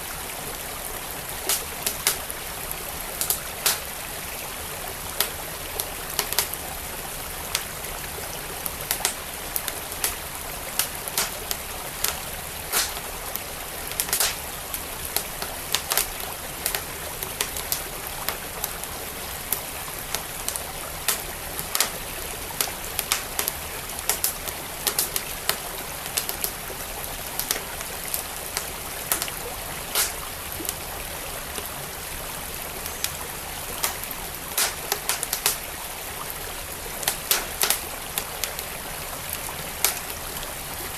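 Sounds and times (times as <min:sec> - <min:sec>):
stream flowing: 0:00.0 - 0:40.9
wood fire crackling and popping: 0:01.2 - 0:40.4.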